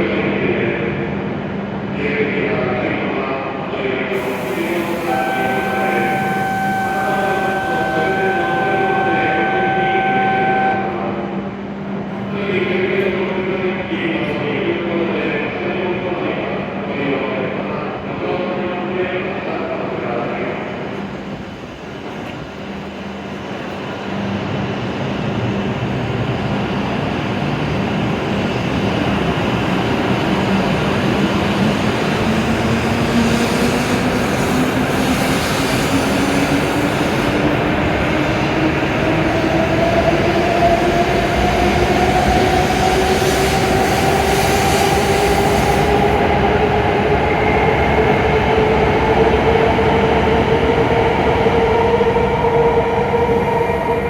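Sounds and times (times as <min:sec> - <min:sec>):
rumble of passing train cars: 0:00.0 - 0:54.0.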